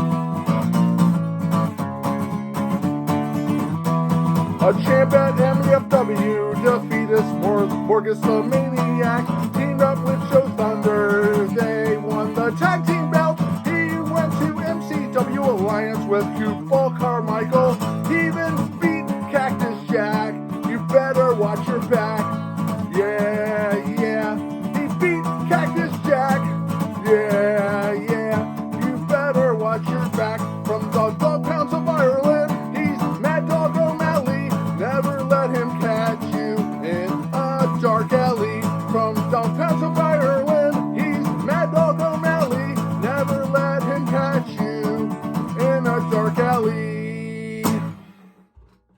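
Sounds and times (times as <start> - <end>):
strummed acoustic guitar: 0.0 - 48.9.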